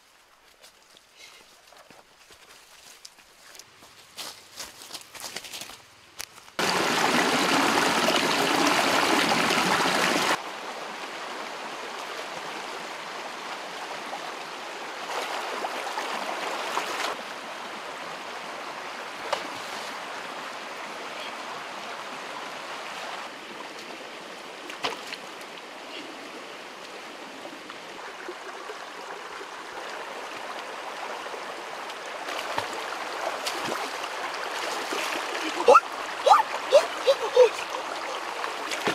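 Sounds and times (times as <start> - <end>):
stream splashing over rocks: 6.6 - 38.9.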